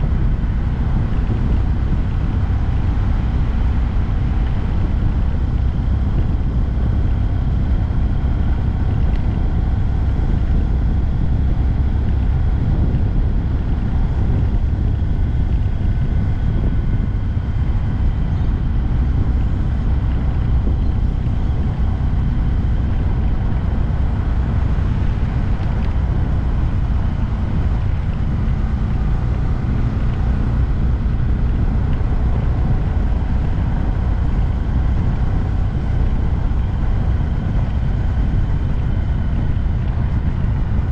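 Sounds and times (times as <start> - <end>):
motorcycle engine running: 0.0 - 40.9
wind rumble on microphone: 0.0 - 40.9.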